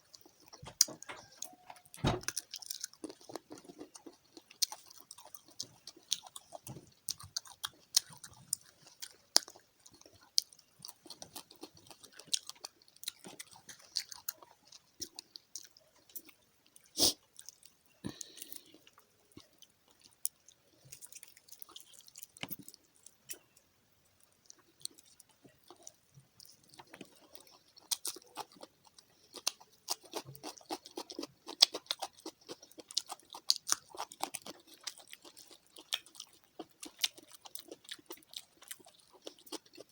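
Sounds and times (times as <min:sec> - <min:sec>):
chewing and crunching fried fish: 0:00.0 - 0:39.9.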